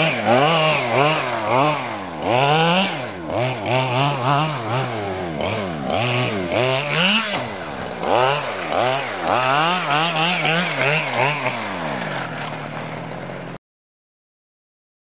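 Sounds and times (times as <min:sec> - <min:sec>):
two-stroke engine revving: 0:00.0 - 0:13.6.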